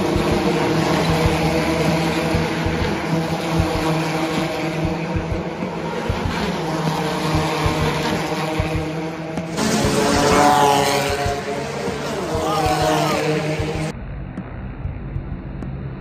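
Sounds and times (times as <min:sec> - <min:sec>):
electric race cars: 0:00.0 - 0:16.0.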